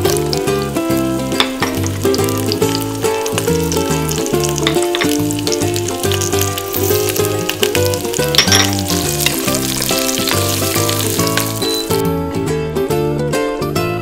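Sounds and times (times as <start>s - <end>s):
spices sizzling in hot oil: 0.0s - 12.0s
background music with bass line: 0.0s - 14.0s.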